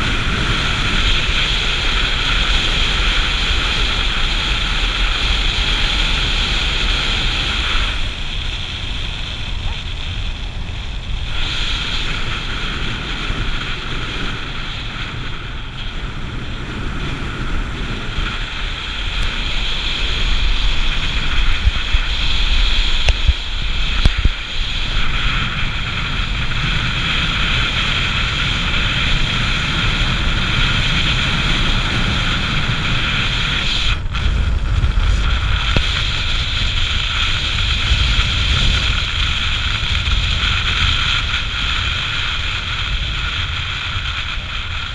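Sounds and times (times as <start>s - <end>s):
motorcycle engine running: 0.0s - 44.9s
wind buffeting microphone: 0.0s - 44.9s.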